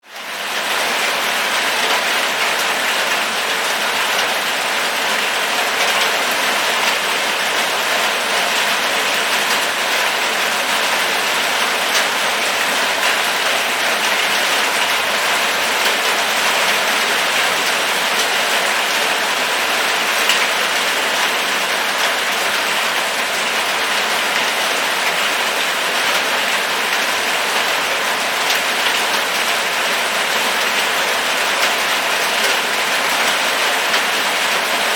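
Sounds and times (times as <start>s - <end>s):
steady rain falling: 0.0s - 34.9s
raindrops pattering on surfaces: 0.1s - 34.9s.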